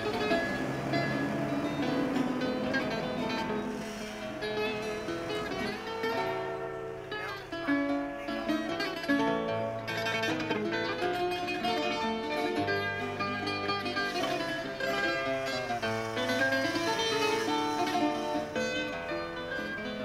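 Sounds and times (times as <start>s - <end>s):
plucked string instrumental music: 0.0s - 20.0s.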